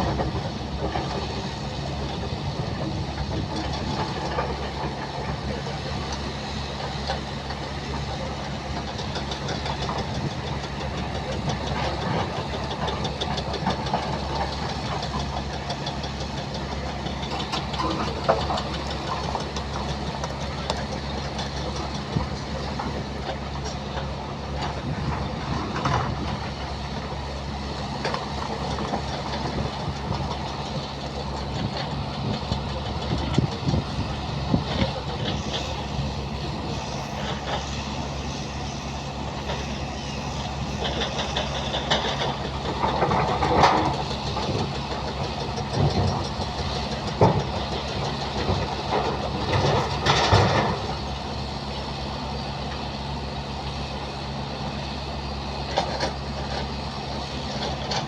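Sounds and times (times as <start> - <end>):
excavator clanks: 0.0 - 58.0
excavator diesel engine running: 0.0 - 58.0.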